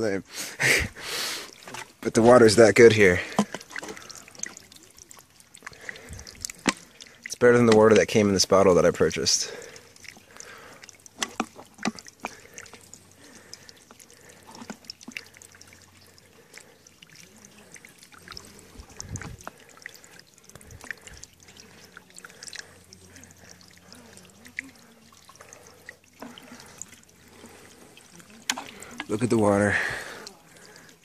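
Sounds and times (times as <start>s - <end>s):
water dripping: 0.0s - 31.0s
water trickling into a plastic bottle: 0.0s - 31.0s.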